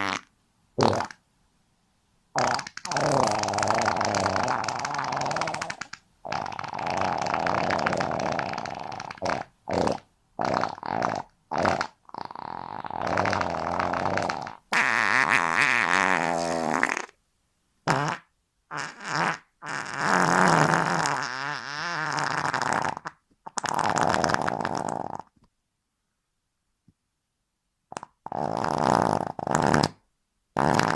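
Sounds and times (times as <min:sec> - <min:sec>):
fart sound effects: 0:00.0 - 0:01.2, 0:02.4 - 0:17.2, 0:17.9 - 0:25.4, 0:27.9 - 0:30.0, 0:30.6 - 0:30.9.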